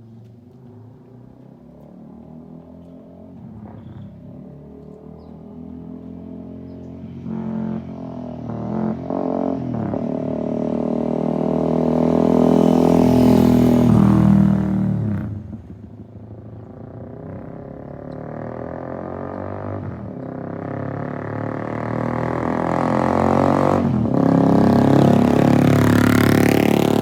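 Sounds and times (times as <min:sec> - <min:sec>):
motorcycle accelerating: 0:00.1 - 0:27.0.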